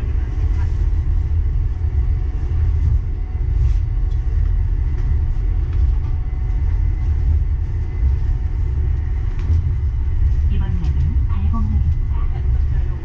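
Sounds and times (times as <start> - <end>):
light rail car rumbling: 0.0 - 13.0.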